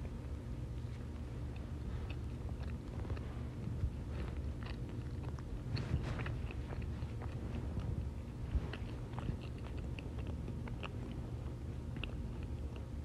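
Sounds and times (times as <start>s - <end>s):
chewing: 0.0s - 13.0s
low hum: 0.0s - 13.0s.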